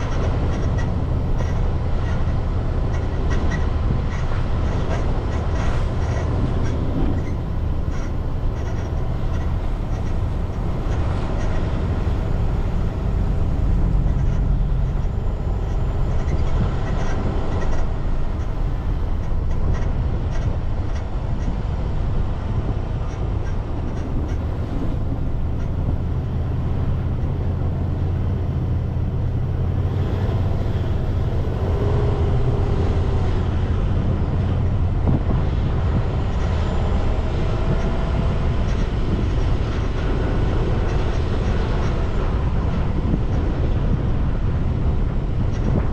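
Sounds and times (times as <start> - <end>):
car engine and tyres rumbling: 0.0 - 45.9.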